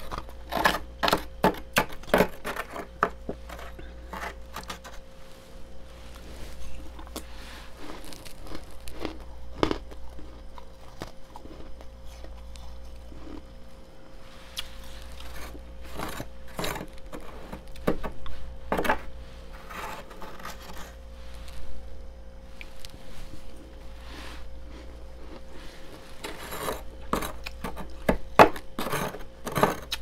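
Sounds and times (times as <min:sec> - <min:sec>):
steady low hum: 0:00.0 - 0:30.0
frost being scraped and crunched: 0:02.1 - 0:13.4, 0:14.2 - 0:21.8, 0:22.4 - 0:30.0.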